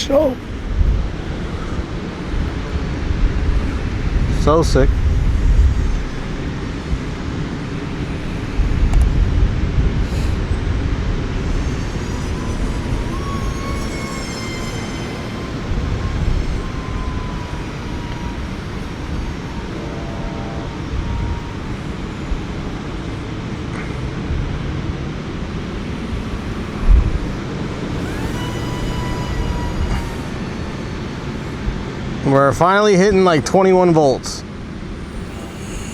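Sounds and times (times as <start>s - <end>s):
model plane motor whine: 0.0s - 35.9s
wind buffeting microphone: 0.0s - 35.9s.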